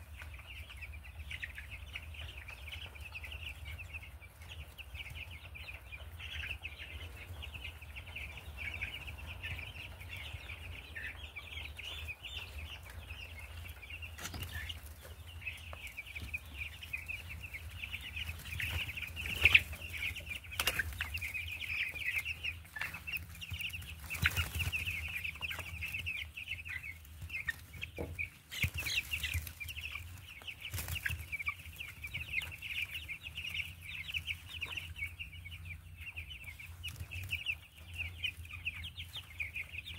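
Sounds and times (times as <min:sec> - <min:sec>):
chicks peeping and chattering: 0:00.0 - 0:39.9.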